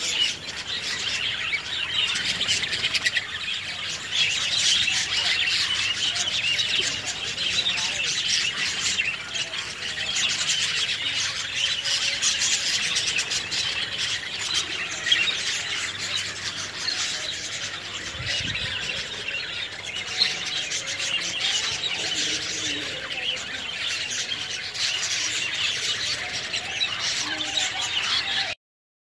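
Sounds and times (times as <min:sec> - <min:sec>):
birds chattering and squawking: 0:00.0 - 0:28.6.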